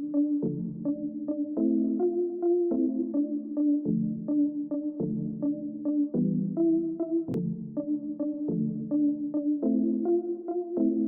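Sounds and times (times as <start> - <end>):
soft electric piano music: 0.0 - 11.0.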